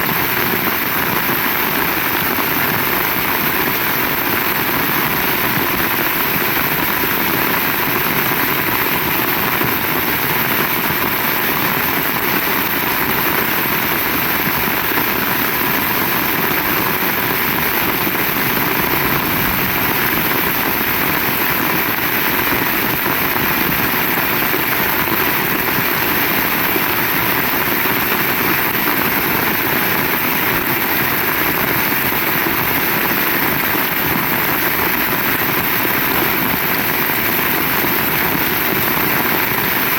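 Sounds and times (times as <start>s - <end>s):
heavy rain falling: 0.2s - 39.9s.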